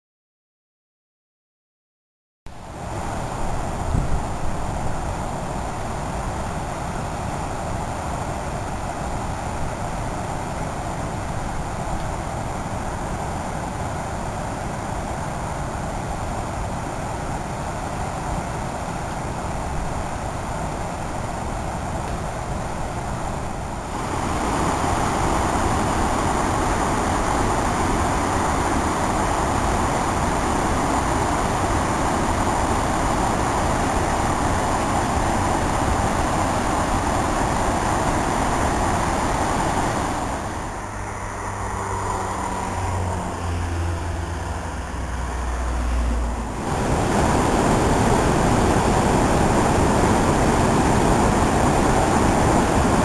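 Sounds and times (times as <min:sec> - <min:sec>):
waterfall roar: 0:02.6 - 0:53.0.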